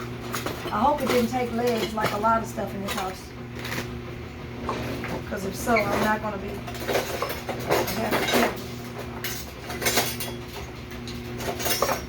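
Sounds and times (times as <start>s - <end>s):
kitchen utensils clattering: 0.0s - 3.9s, 4.6s - 12.0s.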